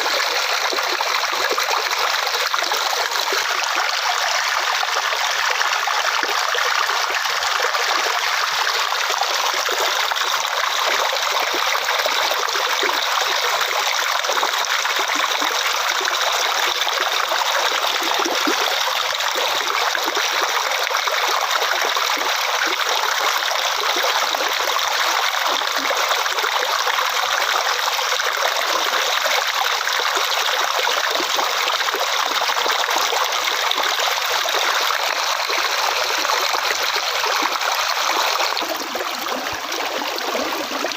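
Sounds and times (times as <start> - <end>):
water flowing and trickling: 0.0 - 40.9.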